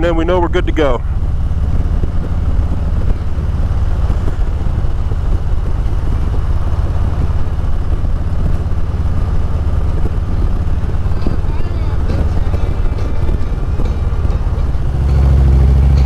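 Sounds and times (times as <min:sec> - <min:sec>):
motorcycle engine rumble: 0:00.0 - 0:16.0
wind on microphone: 0:00.0 - 0:16.0.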